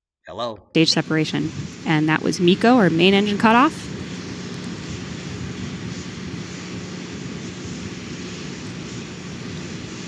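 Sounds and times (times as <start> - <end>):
low even hum: 0.4 - 10.0
steady rushing noise: 0.8 - 10.0.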